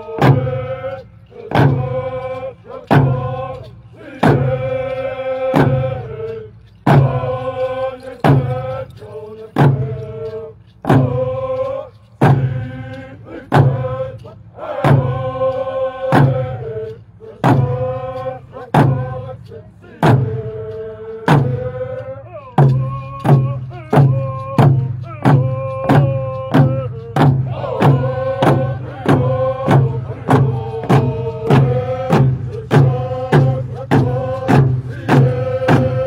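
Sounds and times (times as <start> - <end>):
chanted song: 0.0 - 36.0
slow steady drumbeat: 0.0 - 36.0.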